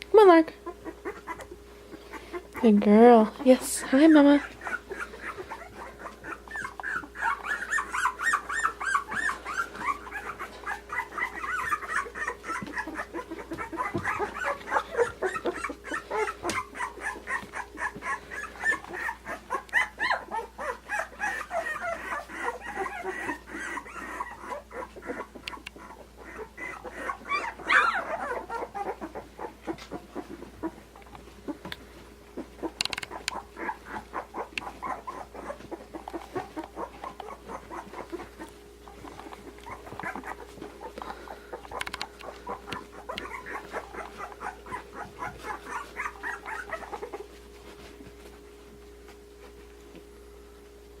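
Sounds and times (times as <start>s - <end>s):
puppies whimpering and squeaking: 0.2s - 50.0s
puppy squealing: 0.6s - 2.7s, 4.2s - 30.8s, 32.4s - 47.4s.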